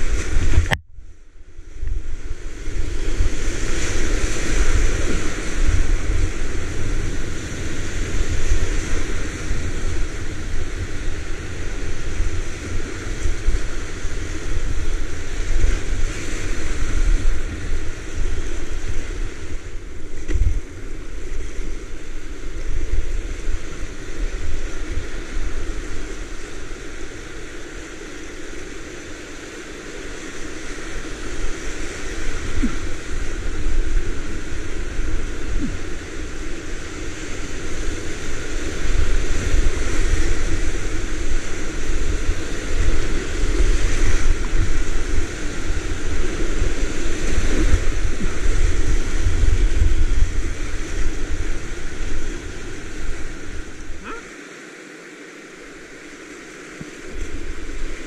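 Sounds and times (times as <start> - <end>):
wind rumble on microphone: 0.0 - 54.3, 55.6 - 58.0
whitewater rapids rushing: 3.1 - 58.0.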